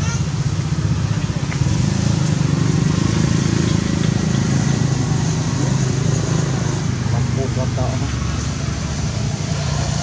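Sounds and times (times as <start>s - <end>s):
engine running low rumble: 0.0s - 10.0s.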